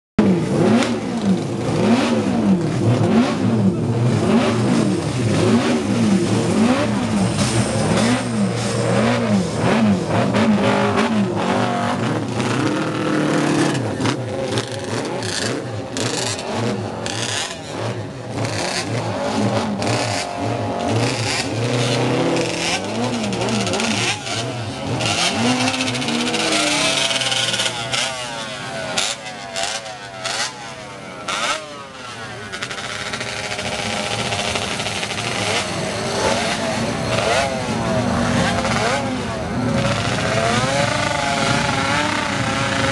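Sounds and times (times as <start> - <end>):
motorcycle engines revving: 0.2 - 42.9.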